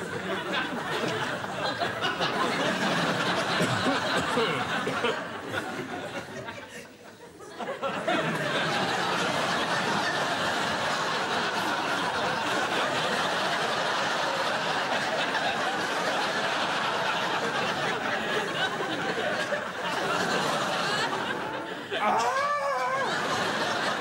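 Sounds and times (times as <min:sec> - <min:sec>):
audience laughing: 0:00.0 - 0:24.0.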